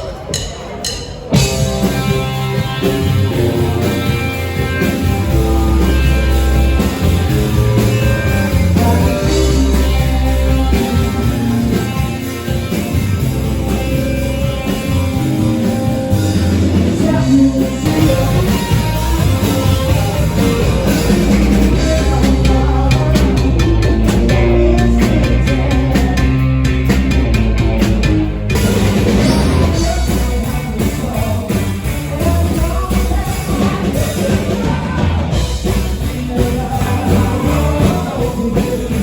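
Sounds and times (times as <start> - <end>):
song with guitar and singing: 0.0 - 39.0.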